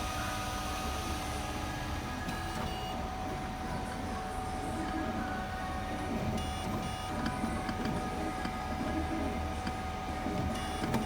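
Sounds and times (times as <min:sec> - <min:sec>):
three-d printer motors whining: 0:00.0 - 0:03.9, 0:04.8 - 0:11.0.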